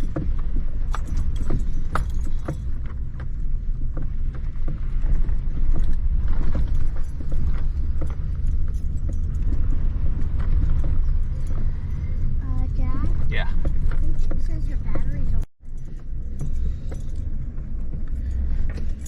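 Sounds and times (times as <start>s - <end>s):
car driving on wet road: 0.0s - 19.0s
small rattles and knocks: 0.0s - 19.0s.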